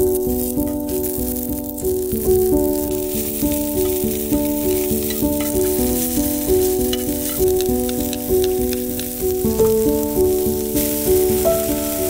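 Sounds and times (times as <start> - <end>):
background music of held notes: 0.0 - 12.0
onions sizzling in oil: 0.0 - 12.0.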